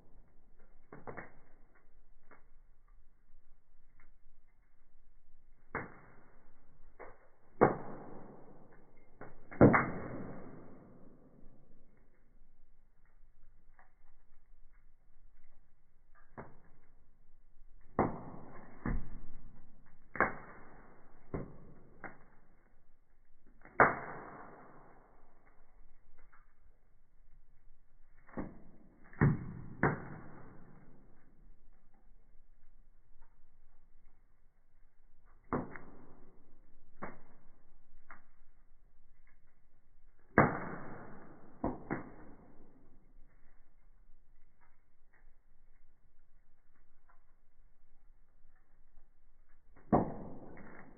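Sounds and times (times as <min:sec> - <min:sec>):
fire popping: 0:00.0 - 0:50.9
wood fire crackling: 0:00.0 - 0:50.9.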